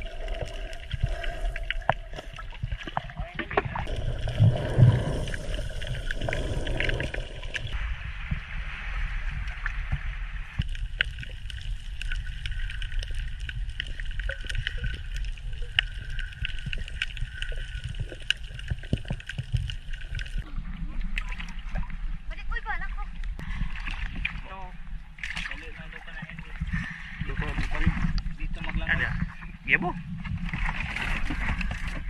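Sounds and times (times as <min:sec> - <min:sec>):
muffled underwater rumble: 0:00.0 - 0:32.0.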